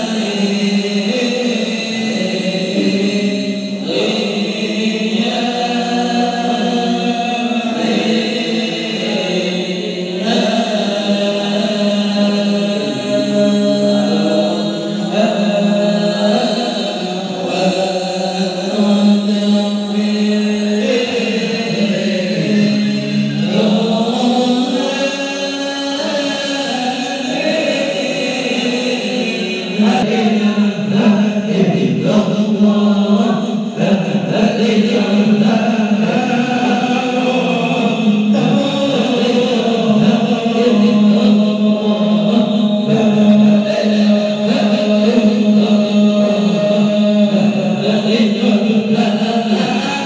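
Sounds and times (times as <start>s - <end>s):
men singing devotional chant: 0.0s - 50.0s.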